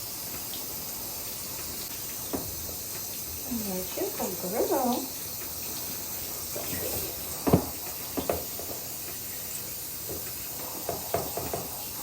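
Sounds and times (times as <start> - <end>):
tap water spraying: 0.0 - 12.0.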